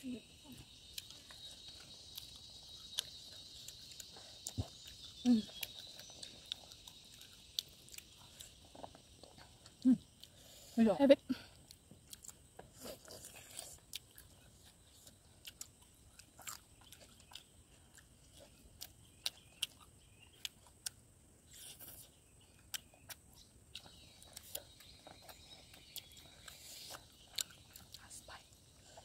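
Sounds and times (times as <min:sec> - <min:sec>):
mouth chewing clicks and smacks: 0:00.7 - 0:29.0.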